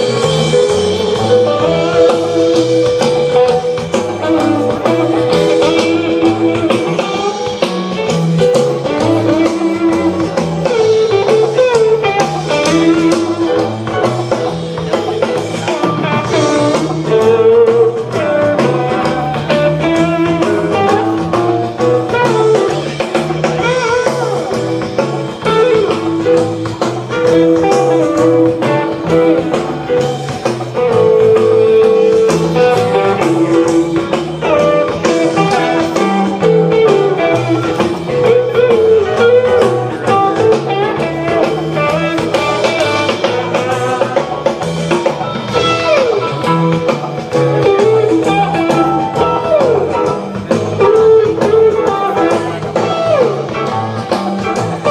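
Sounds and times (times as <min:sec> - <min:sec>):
drum kit groove: 0:00.0 - 0:54.9
electric guitar: 0:00.0 - 0:54.9
walking bass line: 0:00.0 - 0:54.9.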